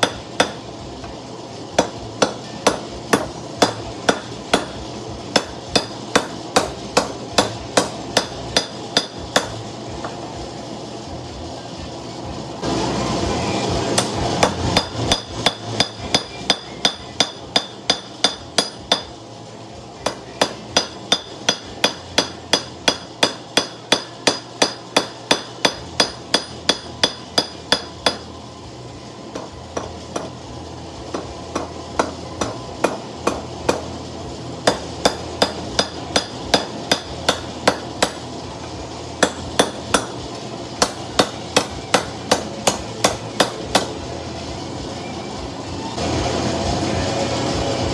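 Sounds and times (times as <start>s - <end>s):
hammer striking steel on anvil: 0.0s - 10.3s, 13.9s - 19.2s, 20.0s - 28.4s, 29.2s - 44.1s.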